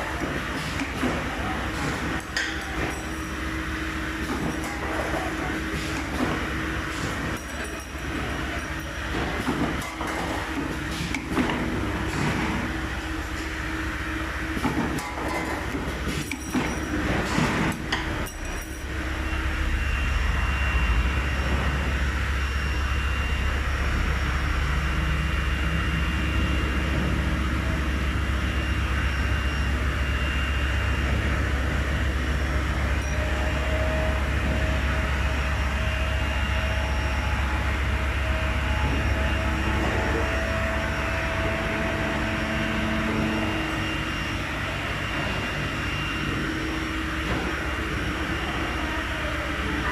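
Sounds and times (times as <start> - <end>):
faint high machine whine: 0.0 - 49.9
machine low hum: 0.0 - 49.9.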